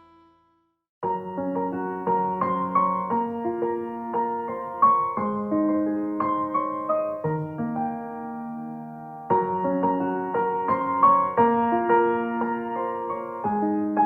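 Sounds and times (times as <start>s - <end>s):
soft piano music: 1.0s - 14.0s.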